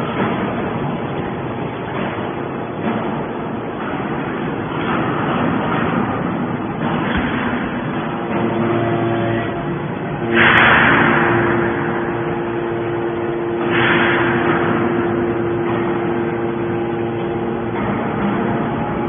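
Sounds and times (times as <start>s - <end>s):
baler power unit hum: 0.0s - 19.0s
rushing hydraulic surges: 0.0s - 19.0s.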